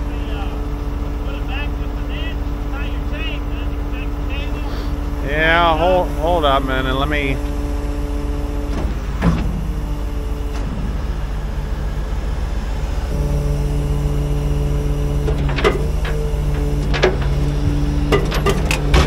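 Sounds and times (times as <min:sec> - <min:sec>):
diesel truck engine idling: 0:00.0 - 0:19.0
low steady hum: 0:00.0 - 0:19.0.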